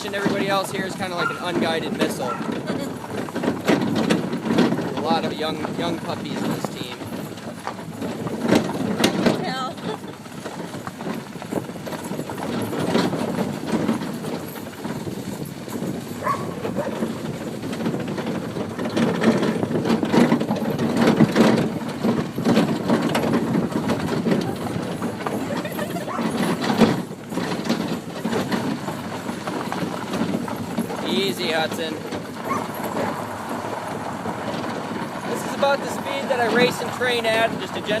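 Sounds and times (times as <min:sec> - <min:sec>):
dogs' footfalls patting: 0:00.0 - 0:38.0
sled rolling rumble and scrape: 0:00.0 - 0:38.0.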